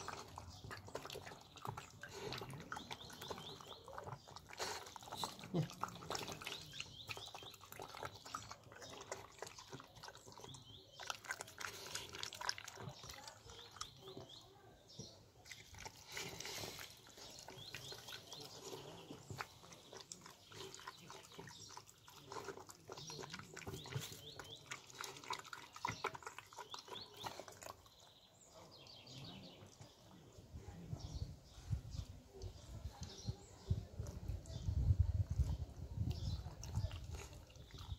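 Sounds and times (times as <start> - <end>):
dog chewing and lapping: 0.0 - 30.4, 32.0 - 37.9.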